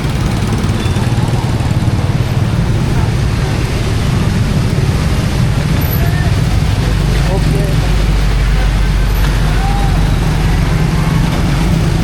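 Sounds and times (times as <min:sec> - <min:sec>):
vehicle engines rumbling: 0:00.0 - 0:12.0
people's voices: 0:00.6 - 0:12.0.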